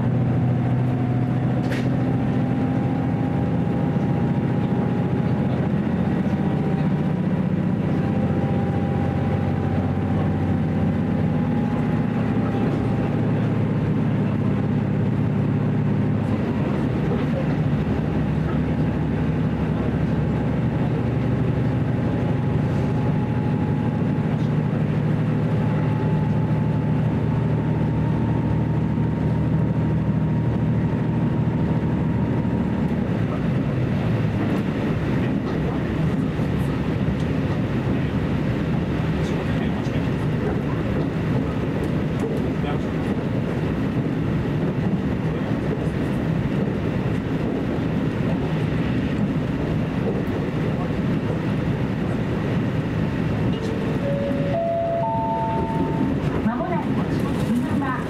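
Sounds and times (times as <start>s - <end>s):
diesel engine drone: 0.0s - 58.0s
wheels rumbling on rail: 0.0s - 58.0s.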